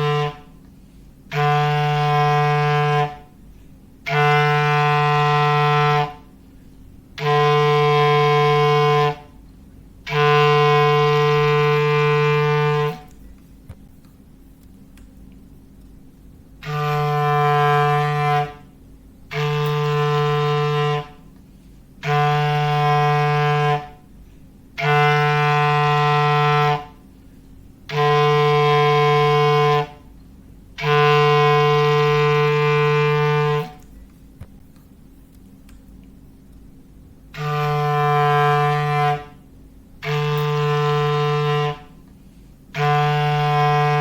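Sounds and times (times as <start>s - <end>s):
foghorn blasts: 0.0s - 13.3s, 16.5s - 33.9s, 37.2s - 44.0s.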